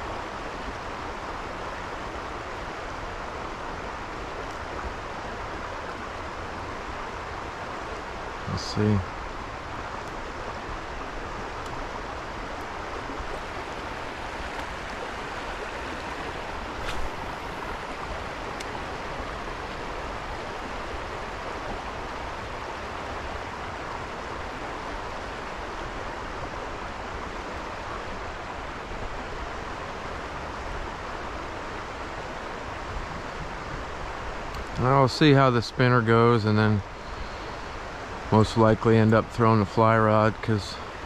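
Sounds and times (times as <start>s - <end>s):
creek water running: 0.0s - 41.0s.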